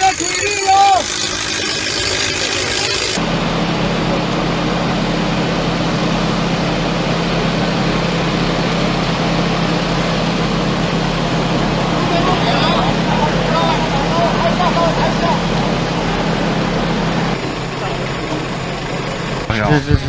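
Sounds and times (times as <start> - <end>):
engine running with low hum: 0.0 - 20.0.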